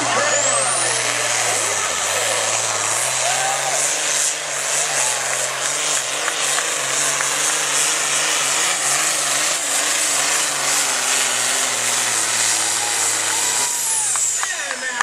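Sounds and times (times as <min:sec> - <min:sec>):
tractor diesel engine at full load: 0:00.0 - 0:15.0.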